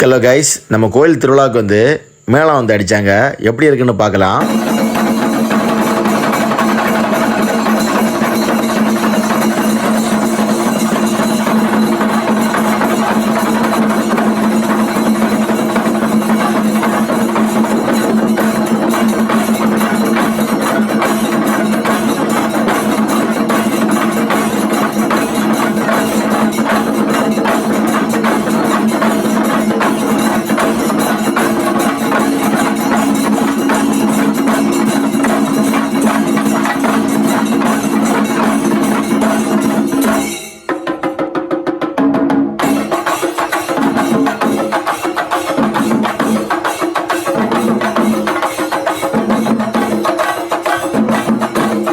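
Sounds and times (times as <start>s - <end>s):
drum ensemble playing fast beat: 4.4s - 51.9s.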